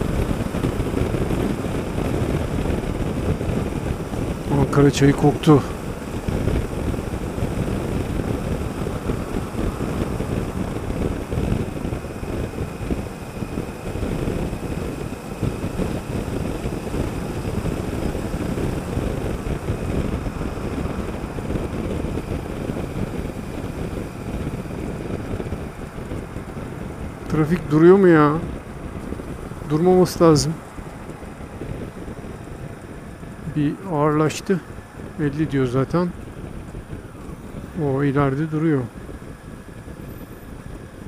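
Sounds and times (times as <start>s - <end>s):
motorcycle engine: 0.0s - 41.0s
road noise: 0.0s - 41.0s
wind rush on microphone: 0.0s - 41.0s.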